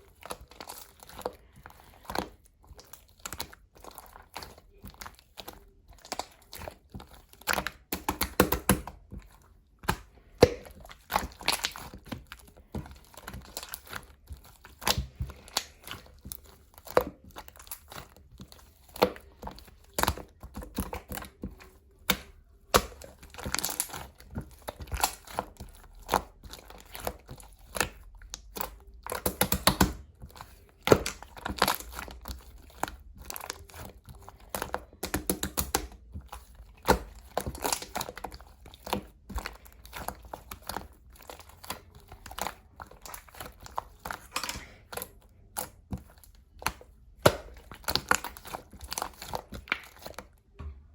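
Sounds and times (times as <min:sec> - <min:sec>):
slime squishing and popping: 0:00.0 - 0:50.7.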